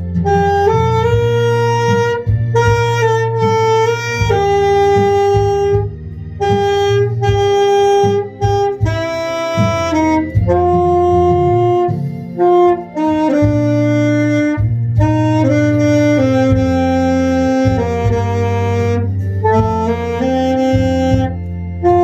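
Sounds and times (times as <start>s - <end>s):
backing track with bass line: 0.0s - 22.0s
saxophone melody: 0.0s - 22.0s.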